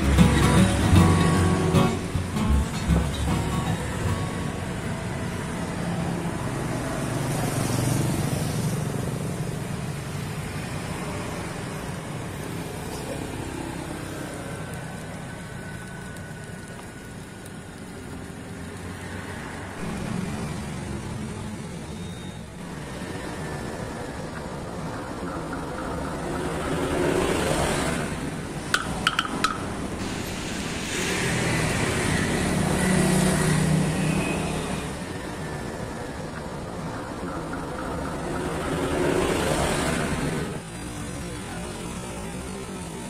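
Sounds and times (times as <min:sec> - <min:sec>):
road traffic passing: 0:00.0 - 0:43.0.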